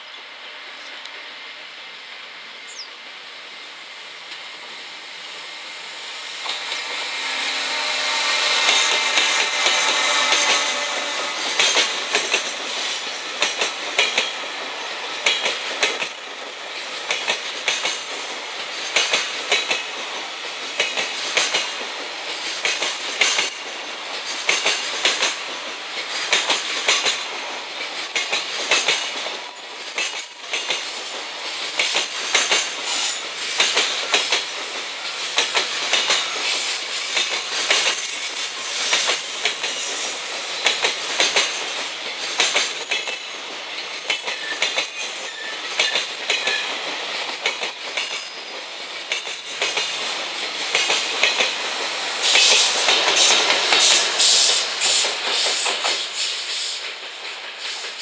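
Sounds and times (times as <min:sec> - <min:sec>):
freight train rumble: 0:00.0 - 0:58.0
wheels clacking over rail joints: 0:06.3 - 0:56.2.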